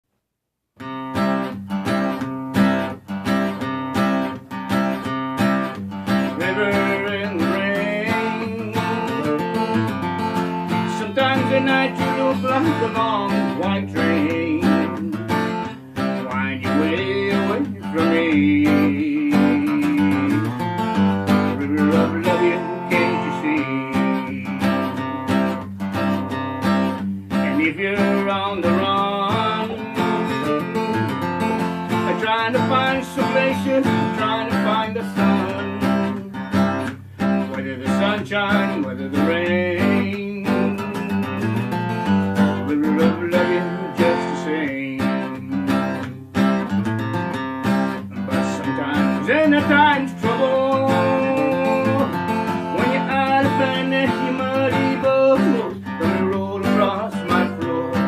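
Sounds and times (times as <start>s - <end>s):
acoustic guitar strumming: 0.8s - 58.0s.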